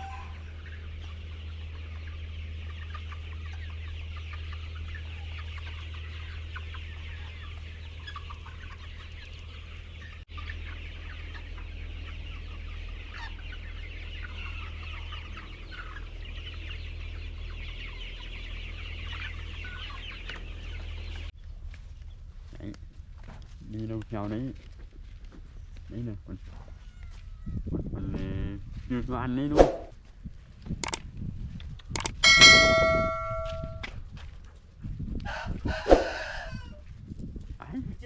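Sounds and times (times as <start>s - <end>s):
chickens clucking: 0.0s - 21.3s, 22.0s - 38.0s.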